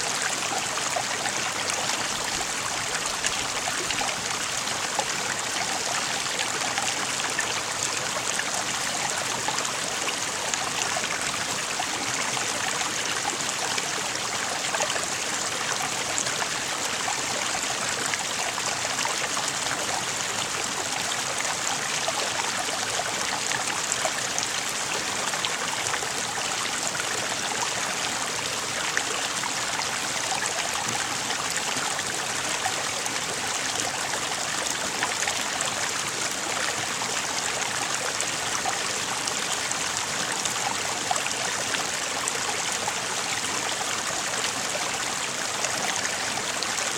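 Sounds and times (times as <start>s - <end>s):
water flowing in a stream: 0.0s - 46.9s.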